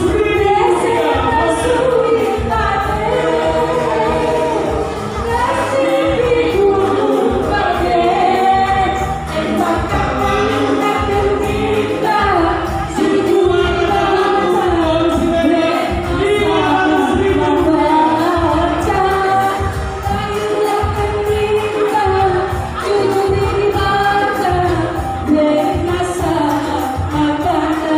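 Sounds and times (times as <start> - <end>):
backing music with low beat: 0.0 - 27.9
person singing into microphone: 0.0 - 27.9.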